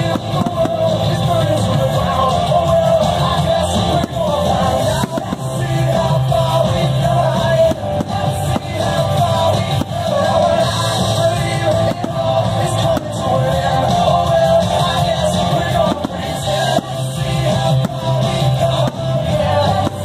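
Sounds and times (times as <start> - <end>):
loud rock music with singing: 0.0 - 20.0.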